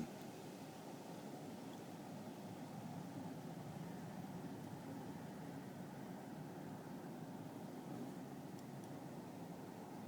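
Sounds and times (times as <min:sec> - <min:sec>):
distant plane rumble: 0:01.2 - 0:10.0.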